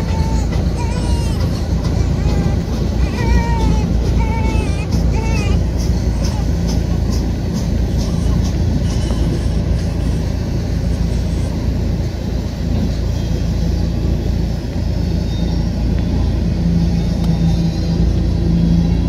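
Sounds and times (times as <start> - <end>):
steady hum: 0.0 - 19.0
train wheels rumbling on rails: 0.0 - 19.0.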